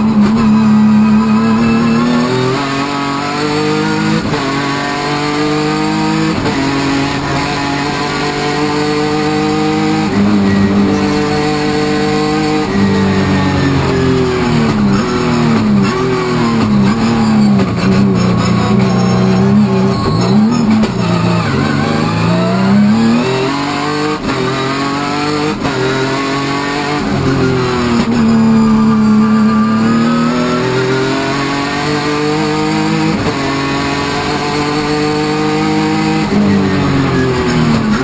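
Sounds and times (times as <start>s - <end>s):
race car engine at full throttle: 0.0s - 38.0s.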